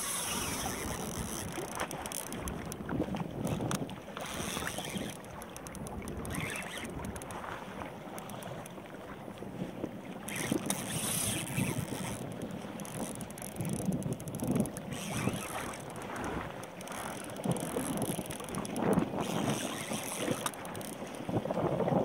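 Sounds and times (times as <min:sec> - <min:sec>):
wind buffeting microphone: 0:00.0 - 0:07.9, 0:09.3 - 0:22.0
water splashing against hull: 0:00.0 - 0:22.0.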